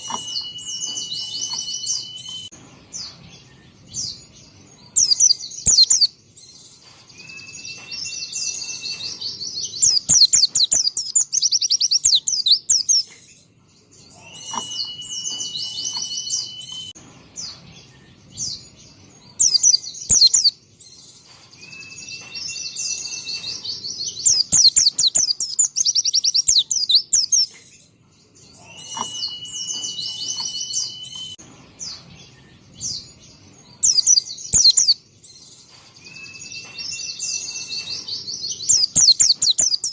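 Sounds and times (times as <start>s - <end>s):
bird twittering and whistling: 0.0s - 2.5s, 4.8s - 13.2s, 14.0s - 17.0s, 19.2s - 27.7s, 28.4s - 39.9s.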